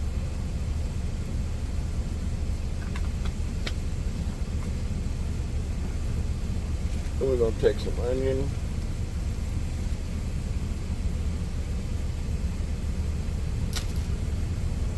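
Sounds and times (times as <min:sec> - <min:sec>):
truck idling: 0:00.0 - 0:14.9.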